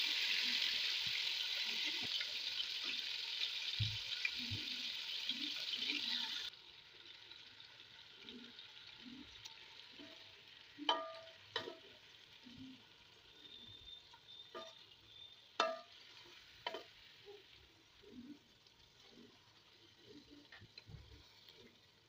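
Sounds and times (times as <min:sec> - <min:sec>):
light sizzle of frying: 0:00.0 - 0:22.0.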